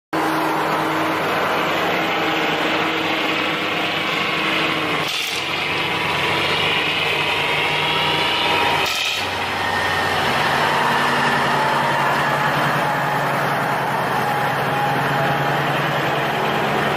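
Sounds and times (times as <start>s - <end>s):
truck diesel engines passing: 0.1s - 16.9s.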